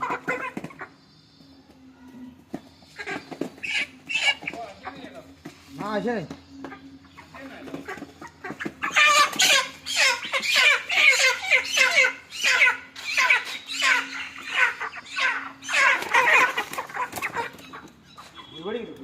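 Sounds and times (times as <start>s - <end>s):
chickens squawking: 0.0s - 19.0s.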